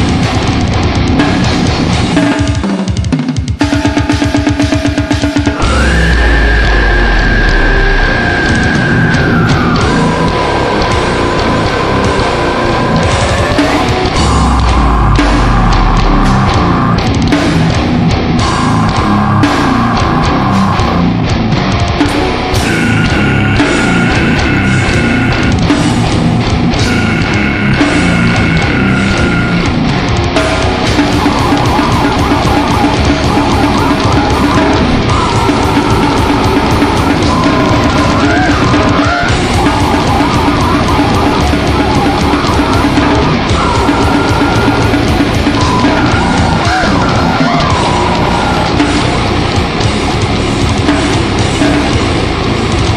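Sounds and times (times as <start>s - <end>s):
heavy metal music: 0.0s - 52.9s.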